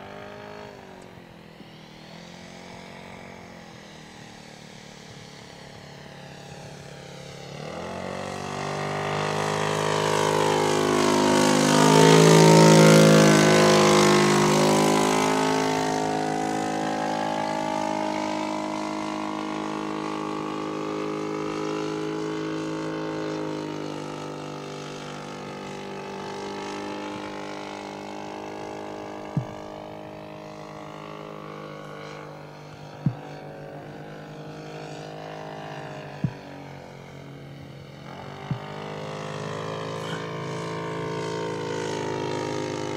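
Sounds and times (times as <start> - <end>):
model plane engine drone: 0.0 - 42.9.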